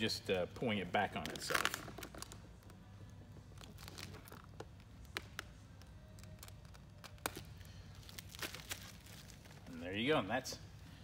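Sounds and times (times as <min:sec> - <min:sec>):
low steady hum: 0:00.0 - 0:11.0
plastic film crinkling and crackling: 0:01.0 - 0:10.0.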